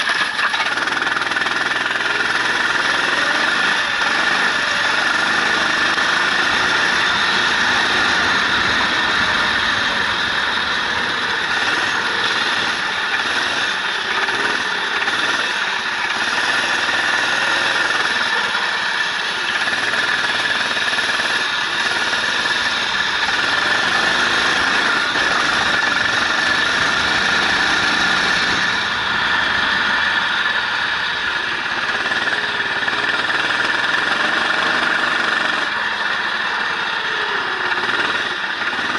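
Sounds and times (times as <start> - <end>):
racing engine revving: 0.0 - 38.9.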